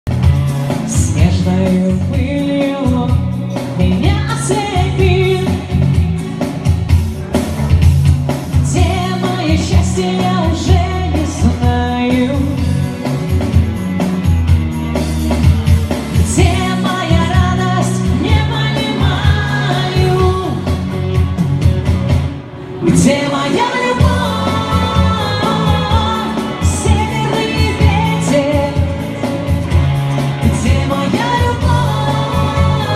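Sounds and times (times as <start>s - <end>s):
pop song with singing: 0.1s - 14.3s, 15.4s - 32.9s.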